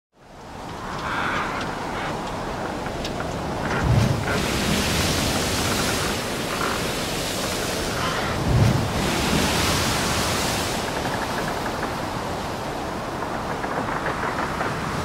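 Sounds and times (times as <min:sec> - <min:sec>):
steady rushing noise: 0:00.2 - 0:15.0.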